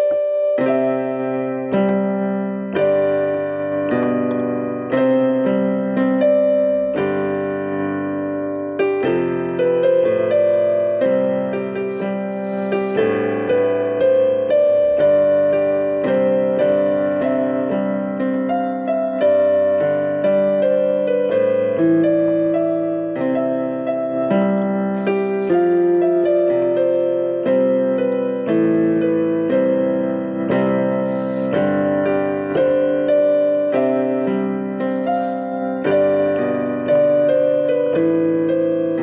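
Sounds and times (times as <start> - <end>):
piano playing slow chords: 0.0 - 39.0.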